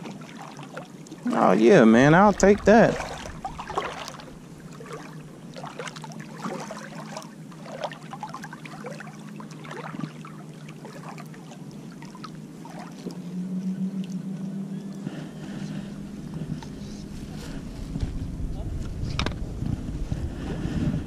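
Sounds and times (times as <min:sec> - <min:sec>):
water lapping and sloshing: 0:00.0 - 0:21.0
faint low hum: 0:01.0 - 0:21.0.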